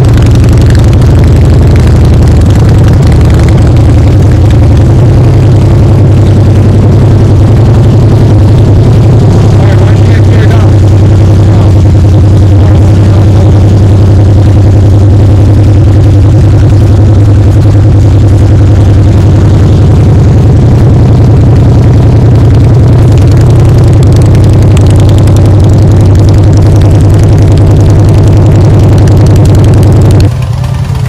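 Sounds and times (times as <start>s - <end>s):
motorcycle engine idling loud: 0.0s - 31.0s.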